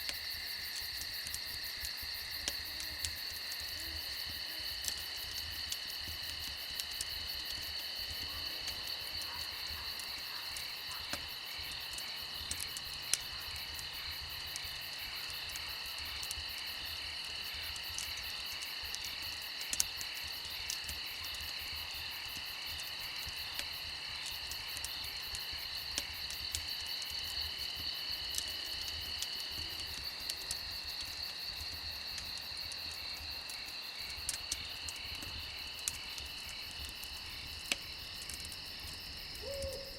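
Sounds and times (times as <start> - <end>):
crickets and insects chirring: 0.0 - 39.9
wood fire crackling: 0.0 - 39.9.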